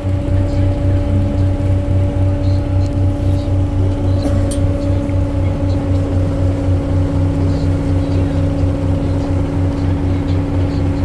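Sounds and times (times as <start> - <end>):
boat engine throbbing hum: 0.0 - 11.0.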